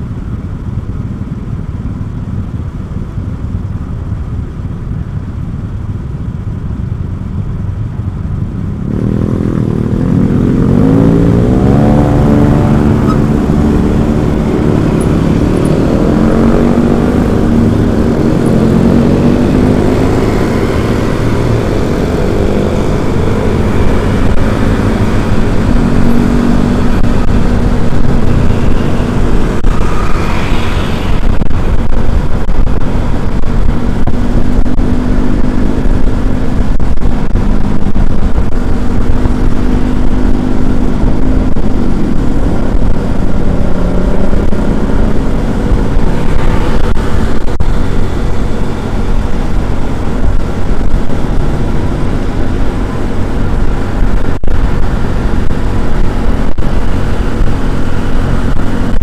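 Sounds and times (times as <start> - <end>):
vehicle engine running: 0.0 - 59.0
wind rumble on microphone: 0.0 - 59.0.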